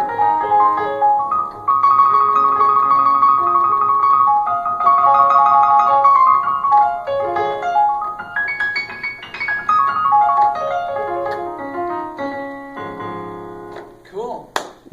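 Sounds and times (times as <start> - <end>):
electronic keyboard piano melody: 0.0 - 14.0.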